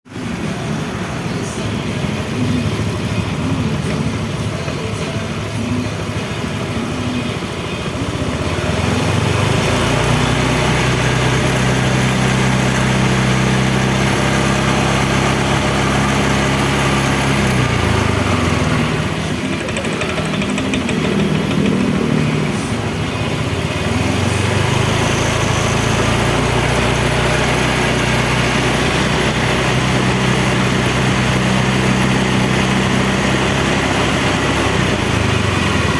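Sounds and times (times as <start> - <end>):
scooter engine idling: 0.1 - 35.9.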